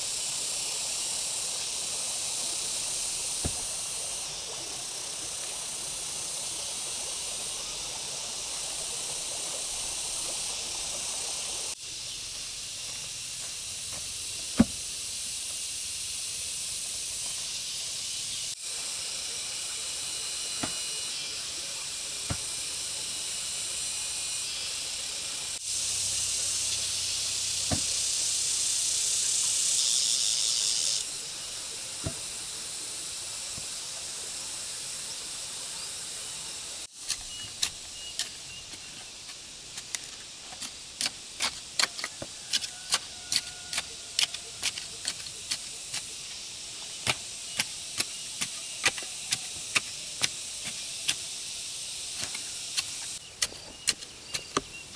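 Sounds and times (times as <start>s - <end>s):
steady high hiss: 0.0s - 54.9s.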